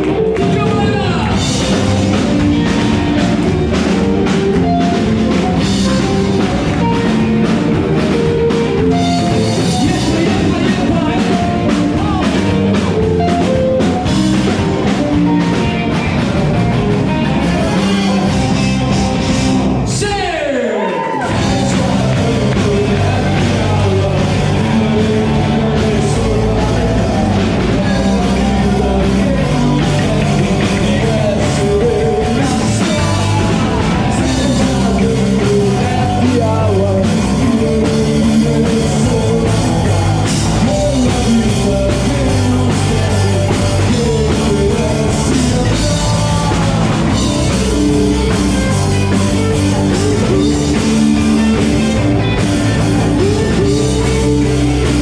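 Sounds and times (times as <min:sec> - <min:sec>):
drum kit: 0:00.0 - 0:20.4, 0:21.2 - 0:55.0
live rock band playing: 0:00.0 - 0:55.0.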